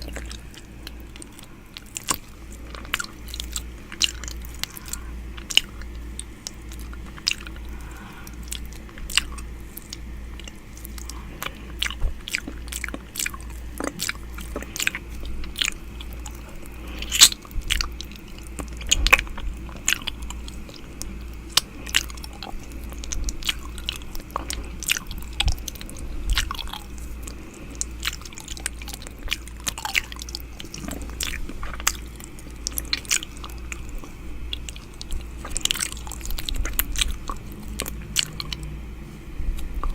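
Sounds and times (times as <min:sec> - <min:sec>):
wet mouth sounds: 0:00.0 - 0:38.8, 0:39.4 - 0:39.9
steady low hum: 0:00.0 - 0:39.9.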